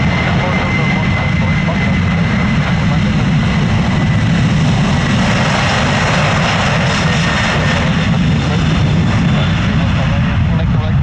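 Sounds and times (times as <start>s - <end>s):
jet engines running loud: 0.0s - 11.0s.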